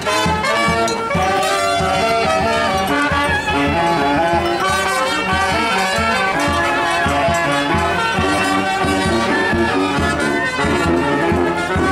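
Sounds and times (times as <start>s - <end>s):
brass band playing: 0.0s - 11.9s.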